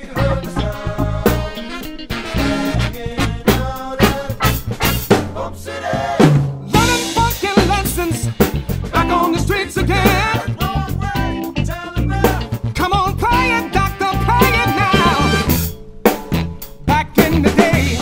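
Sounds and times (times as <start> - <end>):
recorded funk band with singing: 0.0 - 15.7, 16.3 - 18.0
drum kit playing: 0.0 - 18.0.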